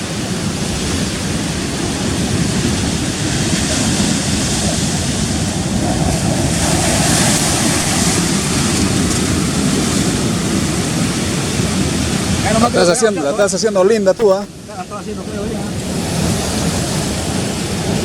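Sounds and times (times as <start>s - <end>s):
rough surf breaking: 0.0s - 18.0s
wind buffeting microphone: 0.0s - 18.0s.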